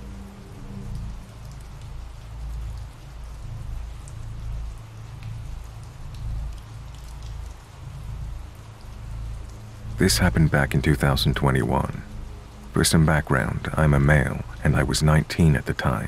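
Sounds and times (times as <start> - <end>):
rain: 0.0 - 16.0
raindrops ticking: 0.0 - 16.0.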